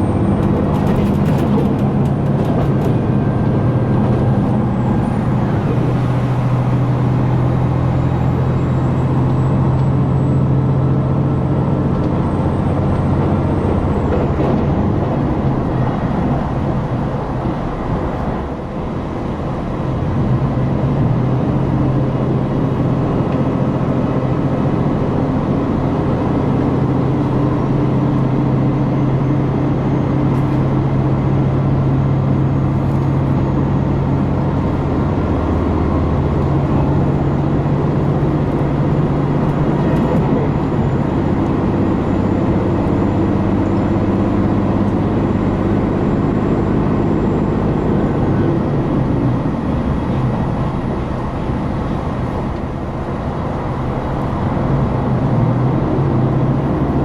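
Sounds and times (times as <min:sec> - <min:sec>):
diesel engine drone: 0:00.0 - 0:57.0
train running noise: 0:00.0 - 0:57.0.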